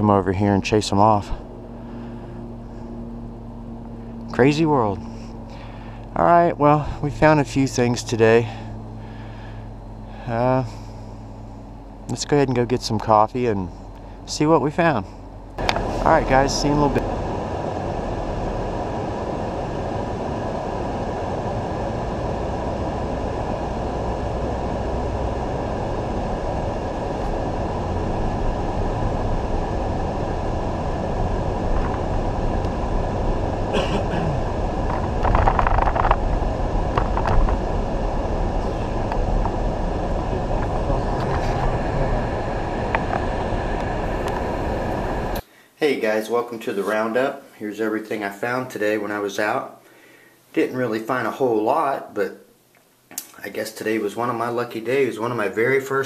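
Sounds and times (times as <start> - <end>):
road and engine noise in car: 0.0 - 45.4.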